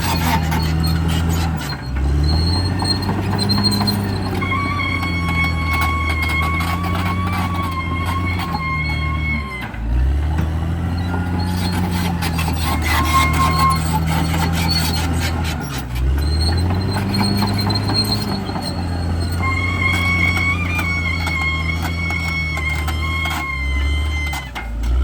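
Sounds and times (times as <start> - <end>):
bulldozer diesel engine under load: 0.0 - 25.0.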